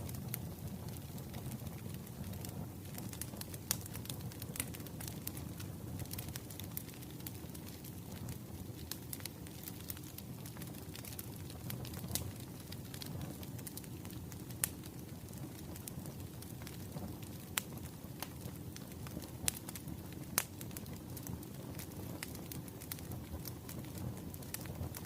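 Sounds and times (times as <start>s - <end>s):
fire popping: 0.0s - 25.0s
wood fire crackling: 0.0s - 25.0s.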